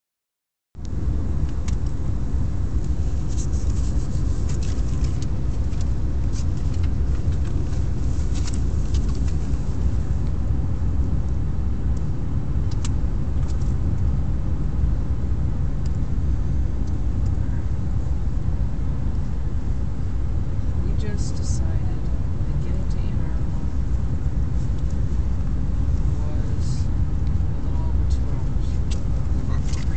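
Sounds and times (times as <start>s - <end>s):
road rumble inside car: 0.8s - 29.9s.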